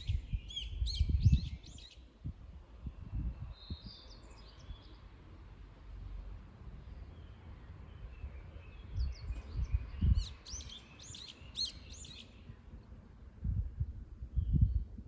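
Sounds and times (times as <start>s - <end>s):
songbird singing: 0.0s - 5.3s, 6.7s - 13.4s, 14.2s - 15.0s.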